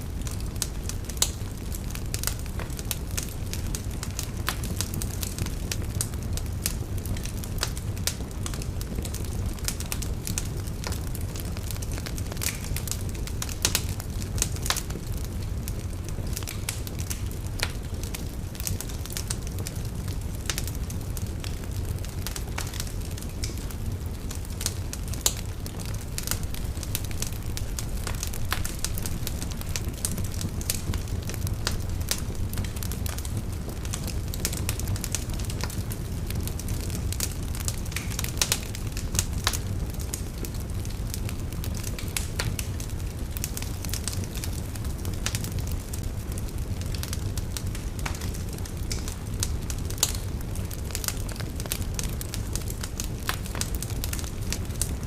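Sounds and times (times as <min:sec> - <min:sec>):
fire crackling and popping: 0:00.0 - 0:55.0.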